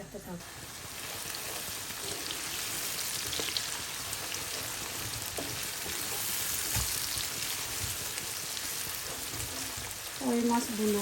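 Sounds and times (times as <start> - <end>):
fish sizzling in hot oil: 0.4 - 11.0.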